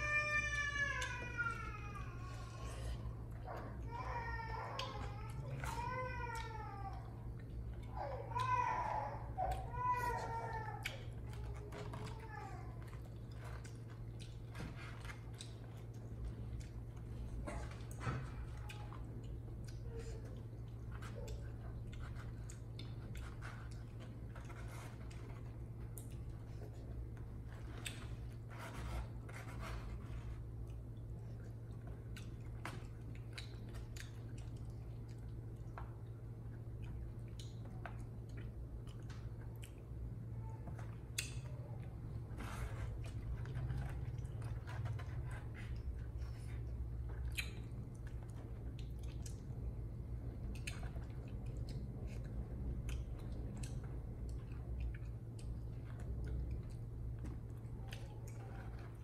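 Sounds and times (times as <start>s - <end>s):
chewing noodles: 9.4s - 59.0s.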